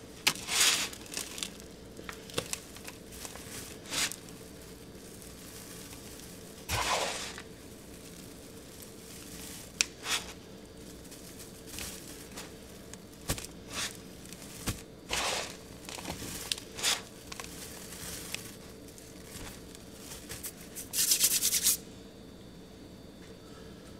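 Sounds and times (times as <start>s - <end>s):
faint steady hum: 0.0s - 23.9s
hands crumbling powdery mass: 0.1s - 21.8s.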